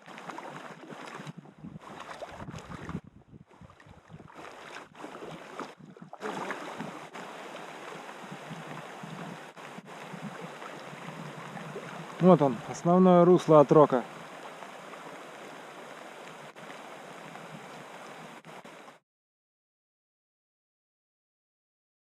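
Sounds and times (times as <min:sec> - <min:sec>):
river water rushing around a raft: 0:00.0 - 0:03.0, 0:03.7 - 0:19.0.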